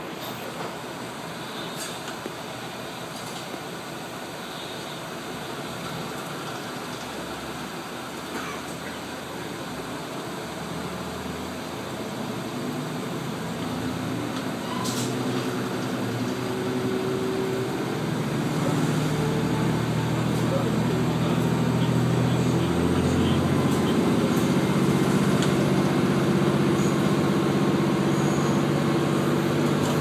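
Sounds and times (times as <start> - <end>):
diesel engine hum: 0.0 - 30.0.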